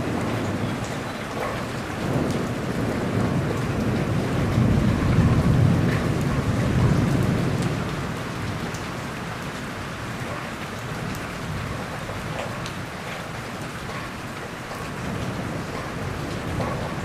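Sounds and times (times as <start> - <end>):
heavy rain: 0.0 - 17.0
low rumble of thunder: 0.0 - 17.0
raindrop ticks: 0.0 - 17.0.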